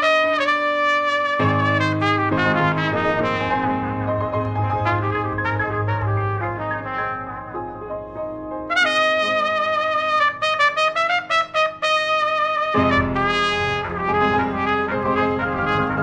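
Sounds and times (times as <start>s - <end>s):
piano accompaniment: 0.0s - 16.0s
trumpet melody: 0.0s - 16.0s.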